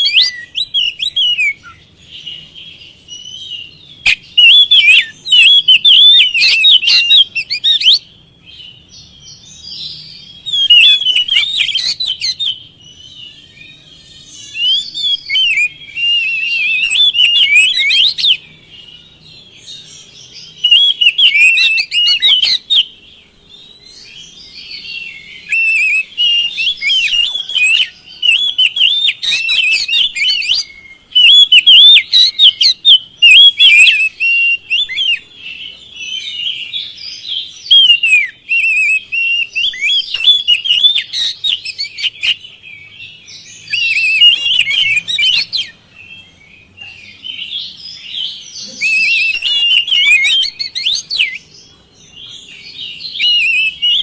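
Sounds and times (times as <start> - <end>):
bird singing chattering song: 0.0 - 54.0.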